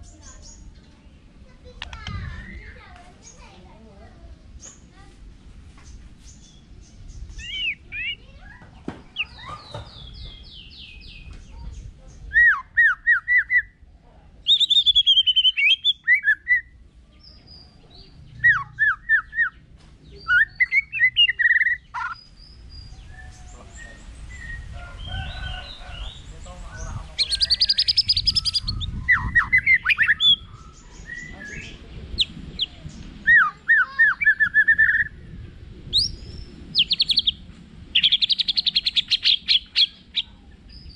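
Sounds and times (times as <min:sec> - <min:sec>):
bird singing rapid repeated notes: 0:05.8 - 0:13.8, 0:14.4 - 0:40.9.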